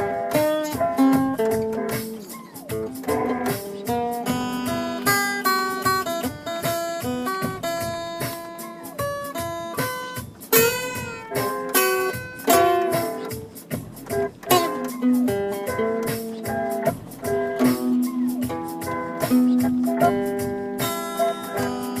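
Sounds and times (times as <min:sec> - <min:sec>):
guitar melody: 0:00.0 - 0:22.0.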